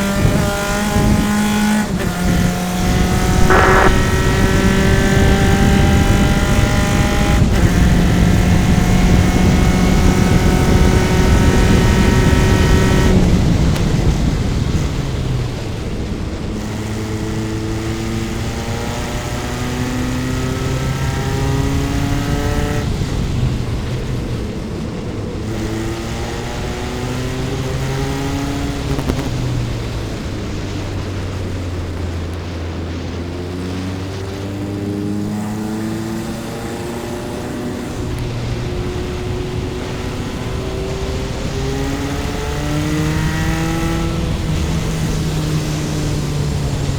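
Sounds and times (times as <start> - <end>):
race car engine: 0.0 - 46.9.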